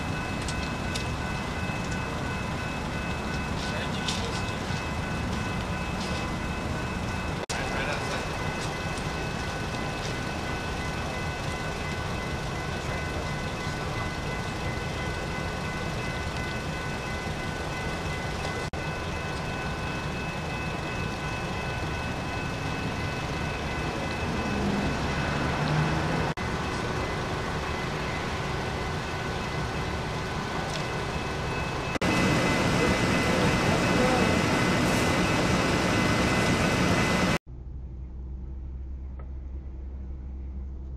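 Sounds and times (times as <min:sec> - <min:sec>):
heavy engines idling: 0:00.0 - 0:37.4.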